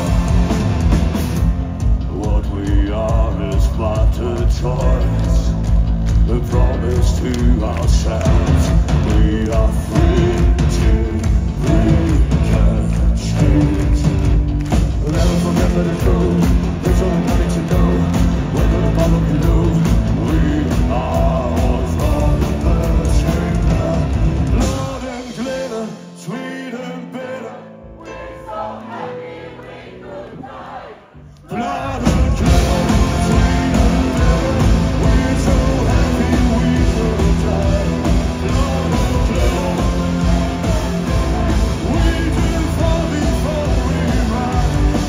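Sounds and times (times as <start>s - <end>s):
heavy drums: 0.0s - 26.4s, 31.5s - 45.0s
live metal band playing: 0.0s - 26.9s, 31.5s - 45.0s.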